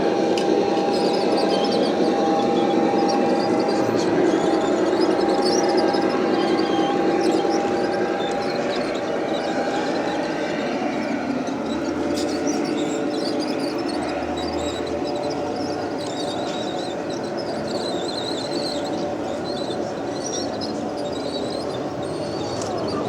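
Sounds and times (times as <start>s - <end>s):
train wheels squealing on track: 0.0s - 23.0s.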